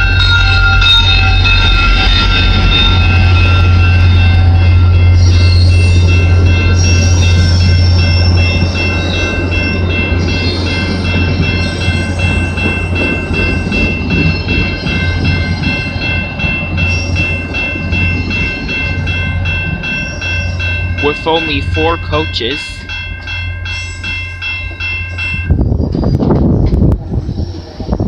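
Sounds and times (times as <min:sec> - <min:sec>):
high ringing: 0:00.0 - 0:25.9
diesel locomotive engine drone: 0:00.0 - 0:28.0.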